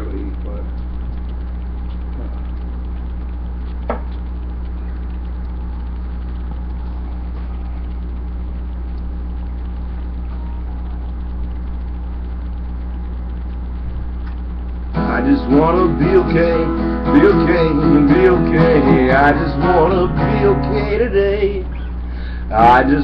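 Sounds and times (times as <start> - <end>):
low hum with buzz: 0.0 - 23.0.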